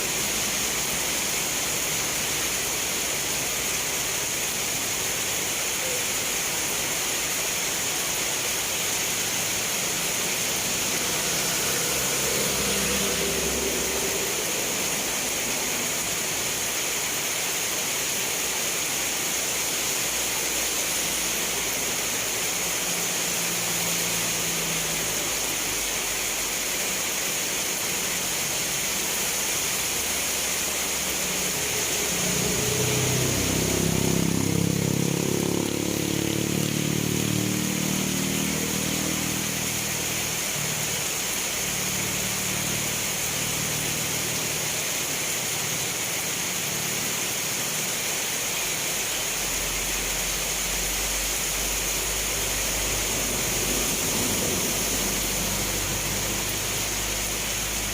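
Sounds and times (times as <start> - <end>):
passing vehicle engine hum: 0.0 - 57.9
rain hissing: 0.0 - 57.9.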